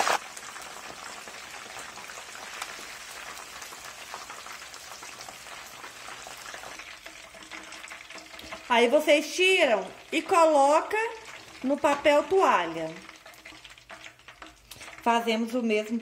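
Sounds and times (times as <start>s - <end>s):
fish deep-frying in hot oil: 0.0s - 16.0s.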